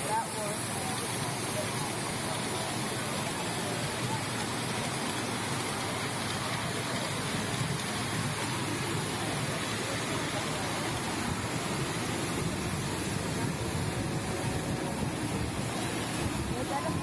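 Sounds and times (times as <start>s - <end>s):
miniature train rolling on track: 0.0s - 17.0s
people's voices: 0.0s - 17.0s.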